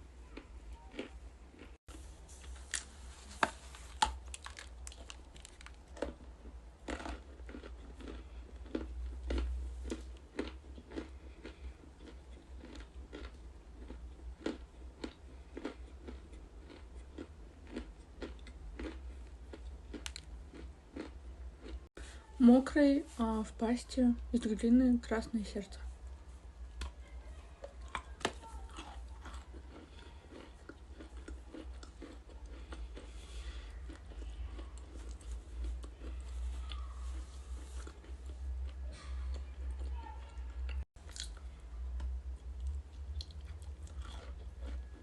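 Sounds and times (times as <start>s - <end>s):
chewing crunchy clay: 0.3s - 2.9s, 3.9s - 21.8s, 27.6s - 40.0s, 40.7s - 45.0s.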